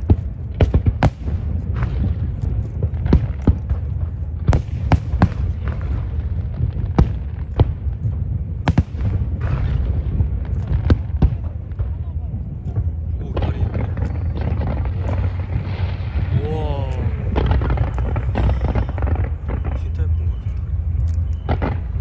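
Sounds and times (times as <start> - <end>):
fireworks bangs: 0.0 - 20.5
low rumble: 0.0 - 22.0.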